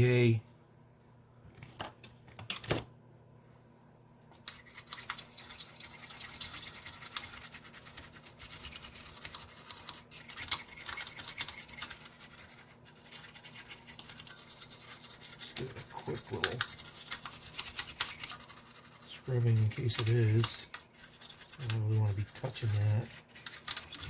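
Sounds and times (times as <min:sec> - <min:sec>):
brush scrubbing circuit board: 0:04.5 - 0:24.0.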